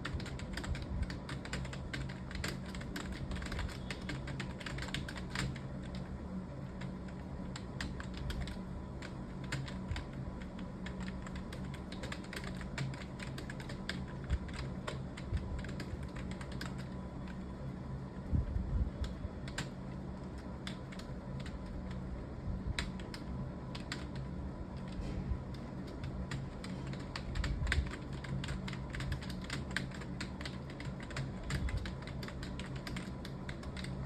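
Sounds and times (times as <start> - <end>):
keyboard typing: 0.0 - 17.4, 18.9 - 34.0
steady low hum: 0.0 - 34.0.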